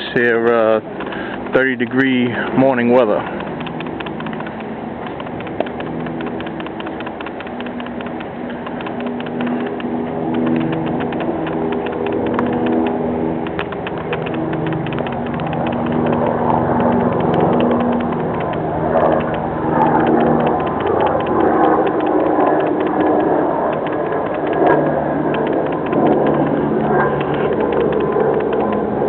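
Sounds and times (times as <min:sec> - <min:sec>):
engine idling with ticking: 0:00.0 - 0:29.0.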